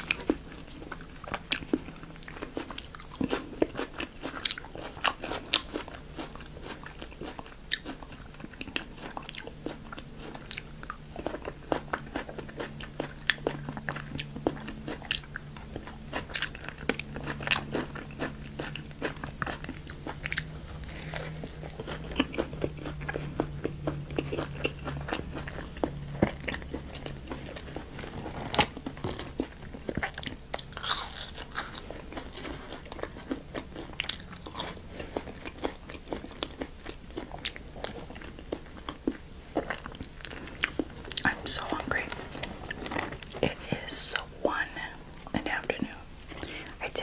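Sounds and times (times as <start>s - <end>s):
crunchy food chewing: 0.0s - 47.0s
low steady hum: 0.0s - 47.0s.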